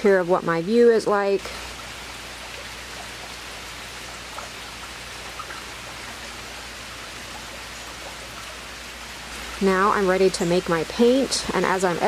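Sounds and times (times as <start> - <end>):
loud raindrops: 0.0 - 12.0
steady rain falling: 0.0 - 12.0.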